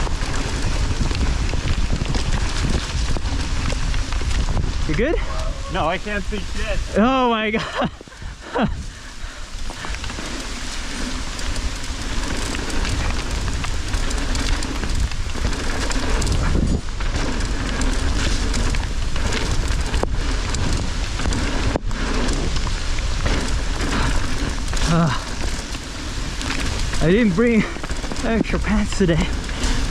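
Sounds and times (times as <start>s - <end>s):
heavy rain falling: 0.0s - 29.9s
wind rumble on microphone: 0.0s - 29.9s.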